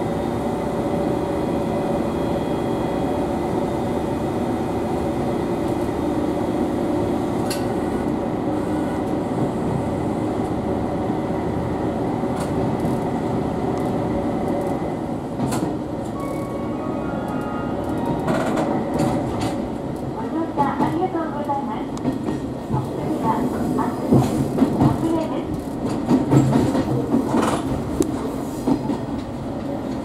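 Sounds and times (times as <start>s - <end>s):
diesel railcar engine running: 0.0s - 30.0s.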